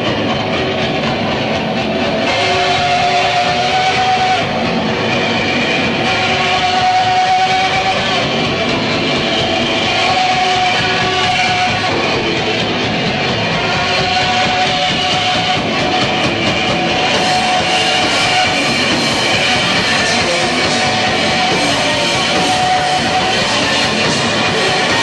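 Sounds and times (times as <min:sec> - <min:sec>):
distorted electric guitar: 0:00.0 - 0:25.0
live rock band: 0:00.0 - 0:25.0.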